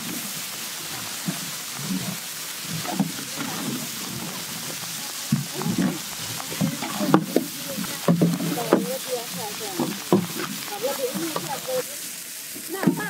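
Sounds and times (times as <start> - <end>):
spices sizzling in oil: 0.0 - 13.0.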